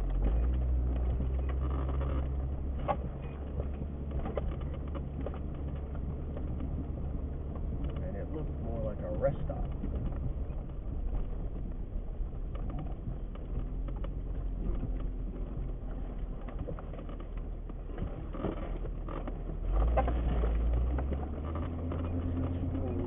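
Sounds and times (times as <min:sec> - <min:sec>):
engine rumble: 0:00.0 - 0:23.0
suspension rattling and clicking: 0:00.0 - 0:23.0.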